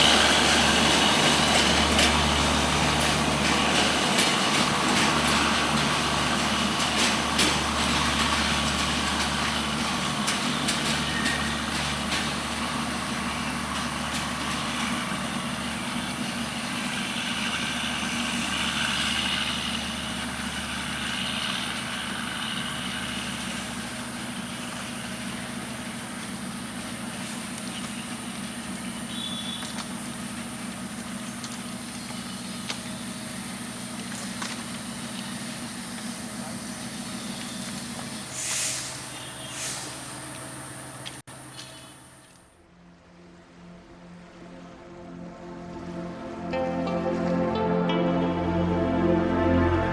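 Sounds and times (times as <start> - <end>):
diesel locomotive engine running: 0.0 - 49.9
train rumble: 0.0 - 49.9.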